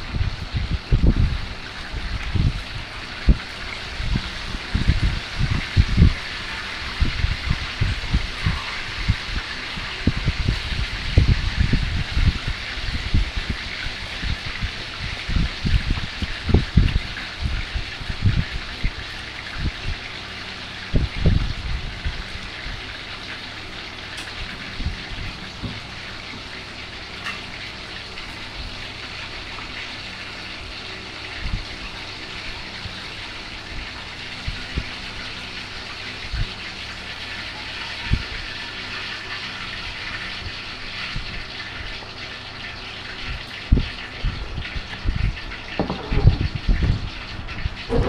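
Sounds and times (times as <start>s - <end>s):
water pouring: 0.0s - 48.0s.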